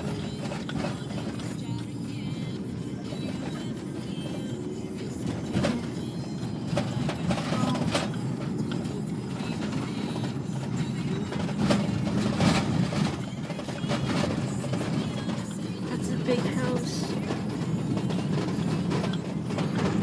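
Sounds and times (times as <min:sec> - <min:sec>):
car cabin road noise: 0:00.0 - 0:20.0.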